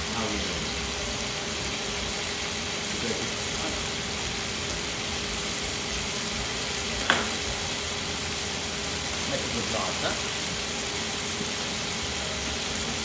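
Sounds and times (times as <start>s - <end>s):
pan sizzling: 0.0s - 13.0s.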